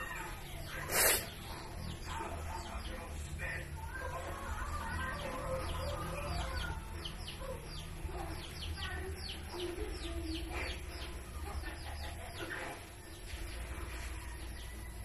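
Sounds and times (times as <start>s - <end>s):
birds peeping: 0.0s - 15.0s.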